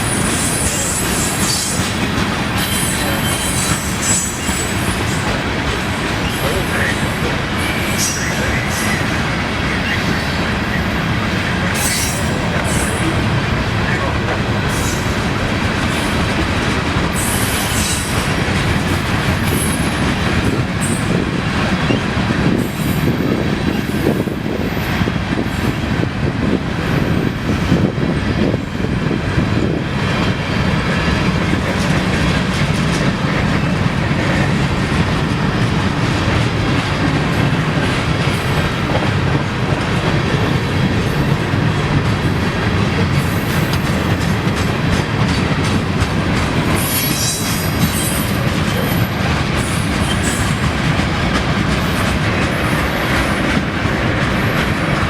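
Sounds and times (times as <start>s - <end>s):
train wheels clicking over rail joints: 0.0s - 55.0s.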